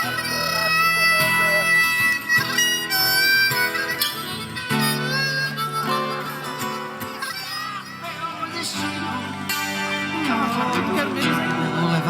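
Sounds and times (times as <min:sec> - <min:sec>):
live instrumental music: 0:00.0 - 0:12.0.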